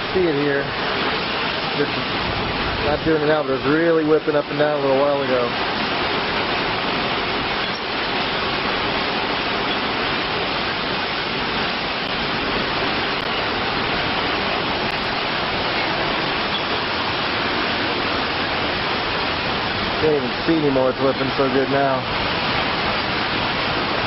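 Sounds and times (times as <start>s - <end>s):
strong wind with driving rain: 0.0s - 24.0s.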